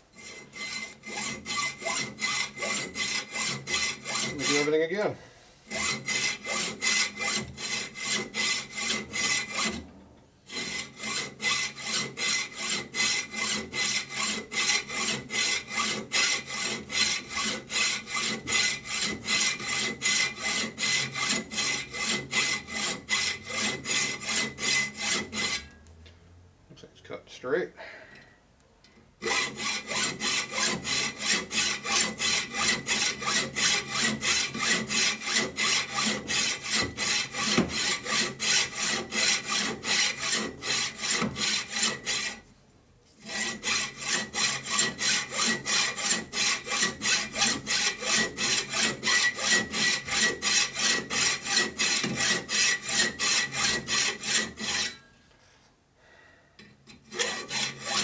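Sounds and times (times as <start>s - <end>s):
hacksaw sawing through metal: 0.2s - 5.1s, 5.7s - 9.8s, 10.5s - 25.7s, 29.2s - 42.4s, 43.2s - 55.0s, 56.9s - 58.0s.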